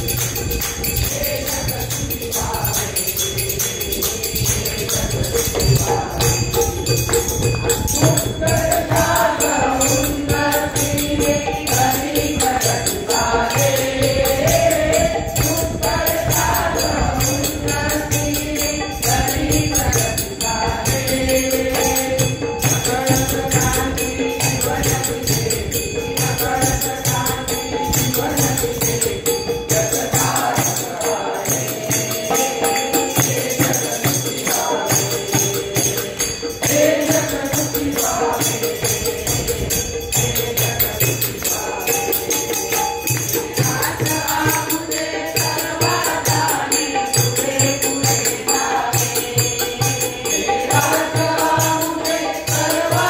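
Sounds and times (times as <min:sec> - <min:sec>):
group singing through microphone: 0:00.0 - 0:53.0.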